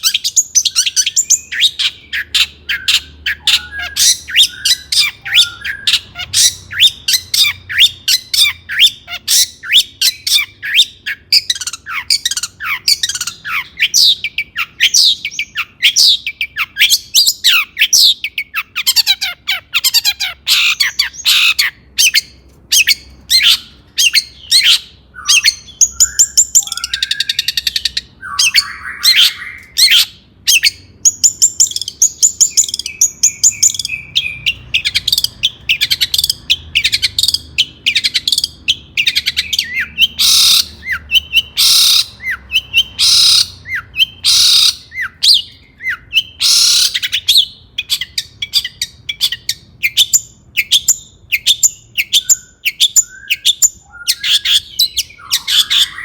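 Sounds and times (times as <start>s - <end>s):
harsh raspy bird chatter: 0.0s - 56.0s.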